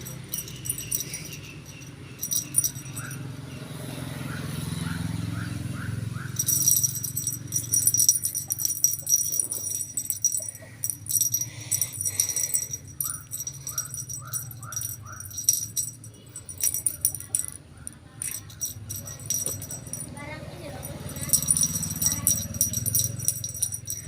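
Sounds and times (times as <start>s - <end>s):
small bell jingling: 0.0s - 3.5s, 6.2s - 24.0s.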